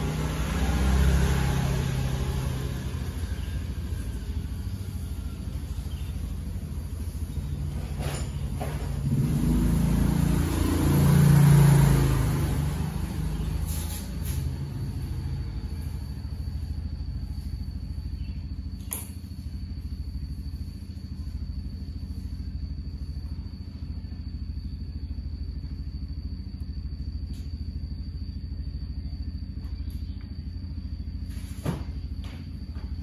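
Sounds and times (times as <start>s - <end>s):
cooling fans humming with high whine: 0.0s - 33.0s.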